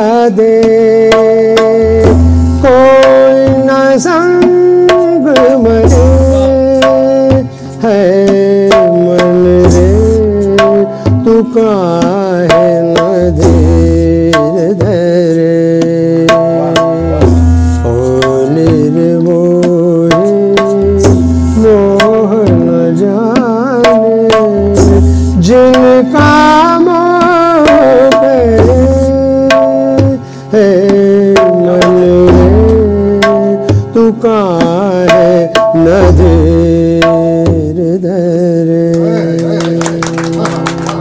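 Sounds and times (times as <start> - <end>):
harmonium melody: 0.0 - 41.0
tabla strikes: 0.0 - 41.0.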